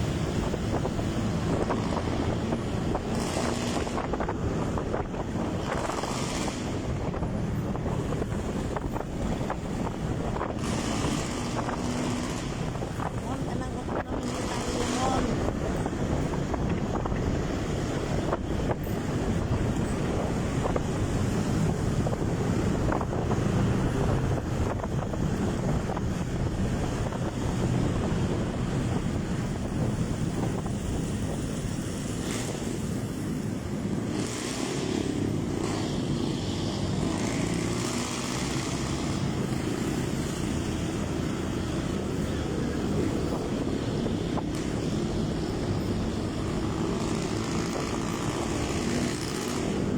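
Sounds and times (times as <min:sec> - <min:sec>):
motorcycle running: 0:00.0 - 0:49.9
wind rushing over microphone: 0:00.0 - 0:49.9.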